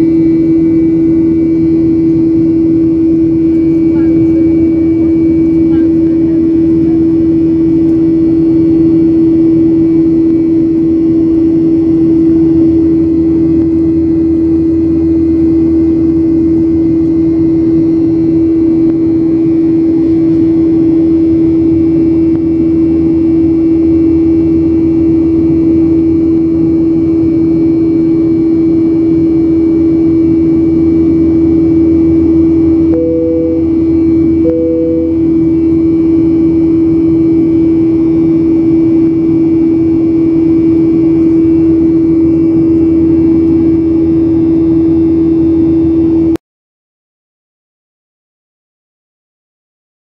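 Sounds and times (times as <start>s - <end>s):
jet engine roar in cabin: 0.0s - 46.4s.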